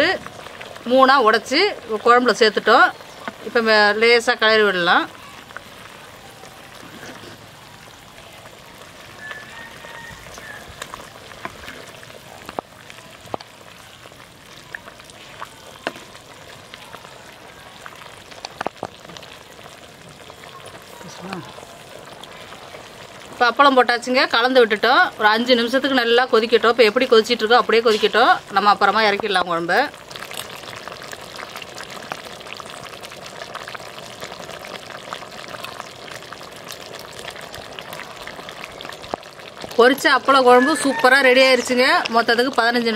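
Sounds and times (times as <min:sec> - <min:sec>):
curry bubbling in pot: 0:00.0 - 0:42.9.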